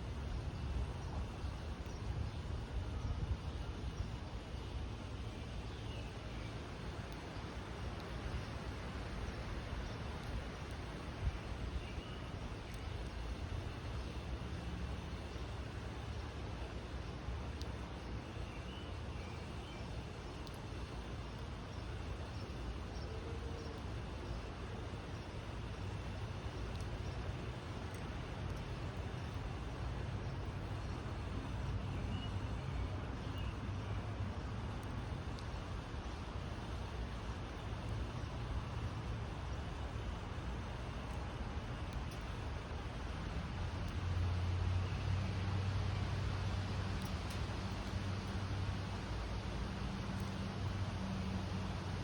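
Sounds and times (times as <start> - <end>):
outdoor rumble and hiss: 0.0 - 52.0.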